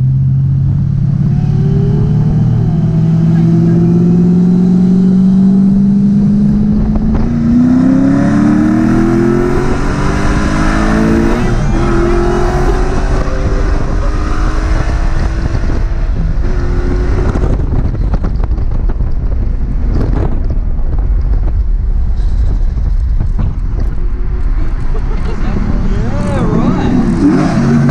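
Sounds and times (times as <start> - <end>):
car engine accelerating: 0.0 - 27.9
wind and road noise: 0.0 - 27.9.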